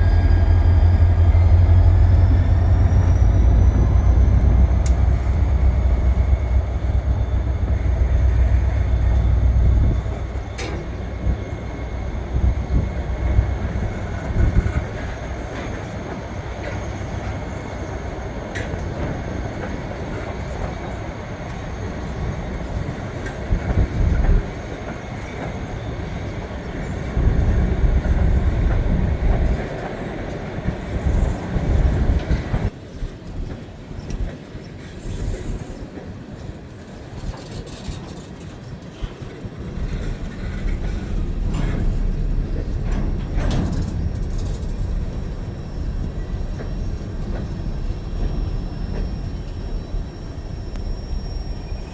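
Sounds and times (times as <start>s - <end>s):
freight train rumbling past: 0.0s - 51.9s
train cars clanking: 0.0s - 51.9s.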